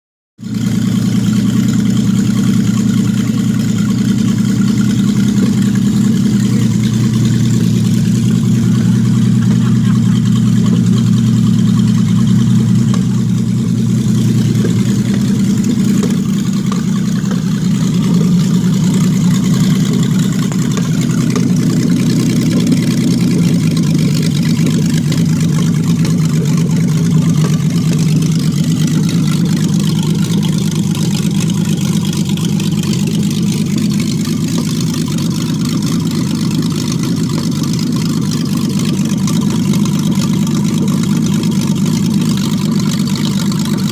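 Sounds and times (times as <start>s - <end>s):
engine idling: 0.4s - 43.9s.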